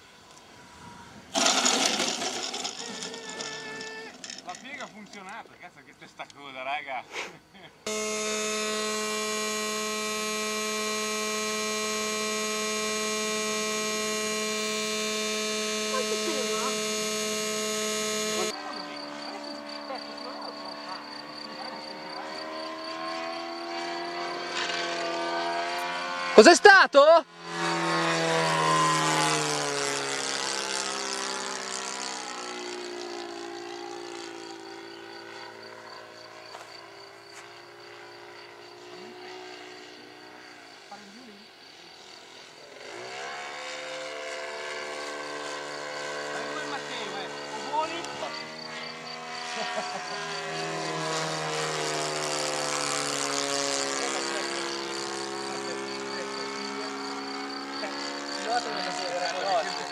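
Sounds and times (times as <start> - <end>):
model airplane engine drone: 0.0 - 6.9, 7.8 - 59.9.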